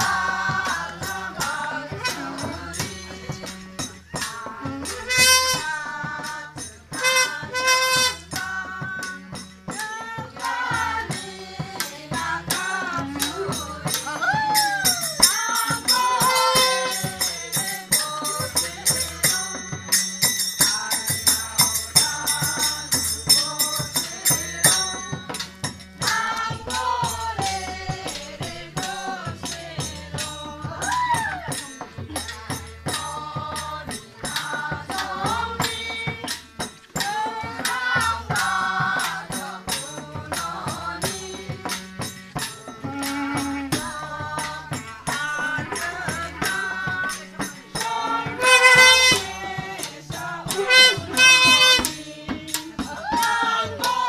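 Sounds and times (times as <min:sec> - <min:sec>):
drums beating: 0:00.0 - 0:54.0
people singing: 0:00.0 - 0:54.0
rattling percussion: 0:00.0 - 0:54.0.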